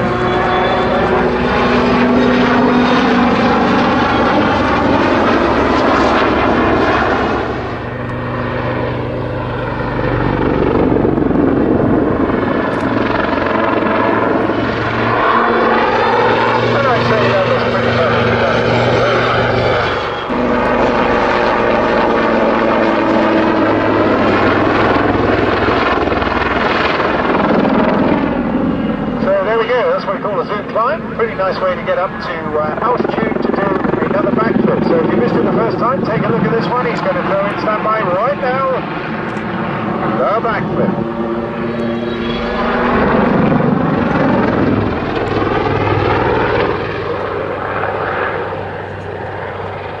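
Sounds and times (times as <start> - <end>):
helicopter flying overhead: 0.0 - 50.0.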